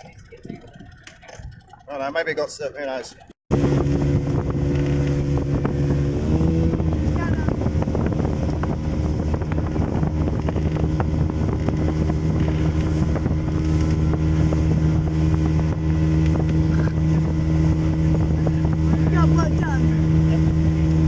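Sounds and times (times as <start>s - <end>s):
motorboat engine droning: 0.0s - 21.0s.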